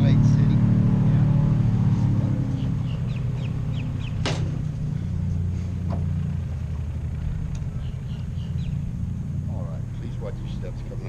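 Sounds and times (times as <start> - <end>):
airboat engine idling: 0.0 - 11.0.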